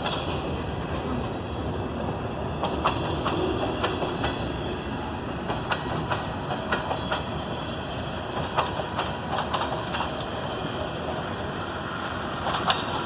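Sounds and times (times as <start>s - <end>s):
freight train rumble: 0.0s - 13.0s
wheels clicking over rail joints: 0.0s - 13.0s.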